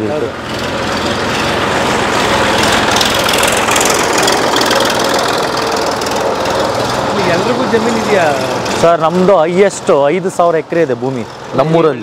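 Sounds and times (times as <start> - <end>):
engine running with rattle: 0.0 - 12.0.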